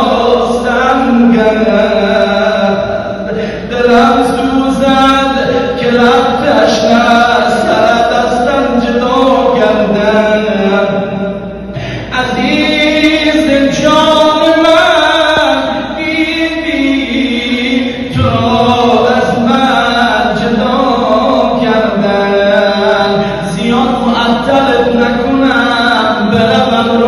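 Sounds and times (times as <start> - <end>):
man chanting a lament: 0.0 - 27.0.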